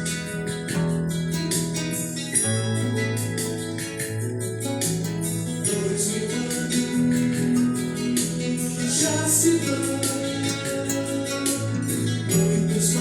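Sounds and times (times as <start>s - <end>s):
gospel singing with guitar and beat: 0.0s - 13.0s.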